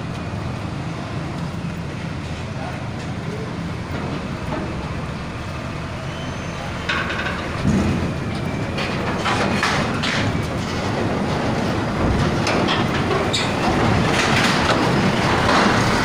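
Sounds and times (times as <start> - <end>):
truck engine rumbling: 0.0 - 16.0
wheels clanking over metal plates: 2.2 - 16.0.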